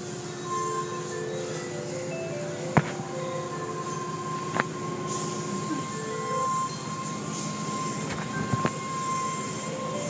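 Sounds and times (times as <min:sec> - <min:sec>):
car wash machinery and spray: 0:00.0 - 0:10.0
thin steady whine: 0:00.0 - 0:10.0.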